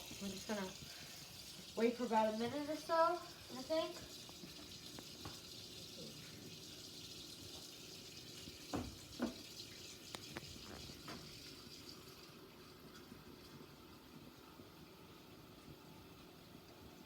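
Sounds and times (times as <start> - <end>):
tap water filling a pot: 0.0 - 17.0.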